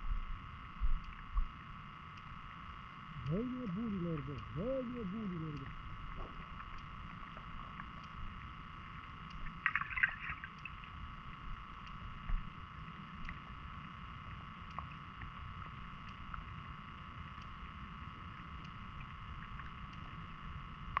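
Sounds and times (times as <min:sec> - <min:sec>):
faint clicks: 0:01.0 - 0:02.6, 0:03.3 - 0:21.0.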